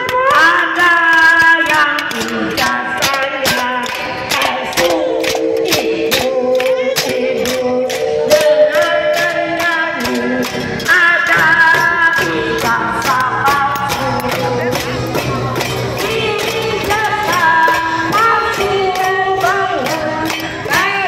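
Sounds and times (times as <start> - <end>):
pots and lids struck in a beat: 0.0 - 21.0
women singing together: 0.0 - 21.0.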